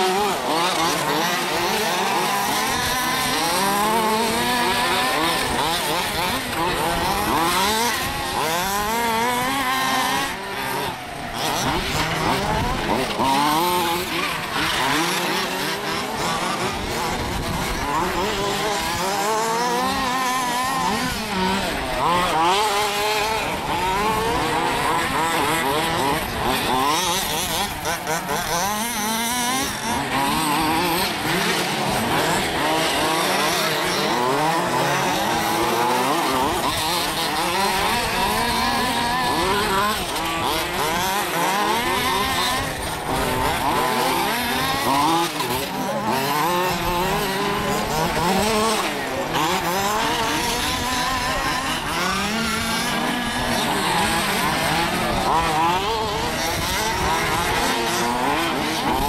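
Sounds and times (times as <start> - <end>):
rc buggy engines whining: 0.0 - 59.0.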